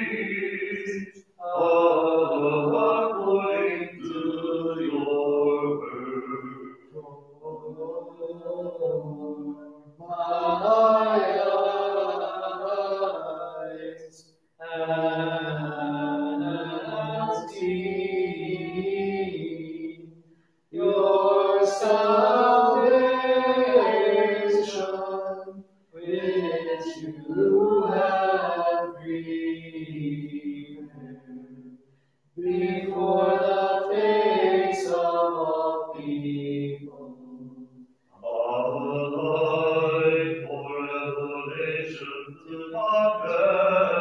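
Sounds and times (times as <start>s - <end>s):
unaccompanied liturgical chant: 0.0s - 31.8s, 32.4s - 44.0s.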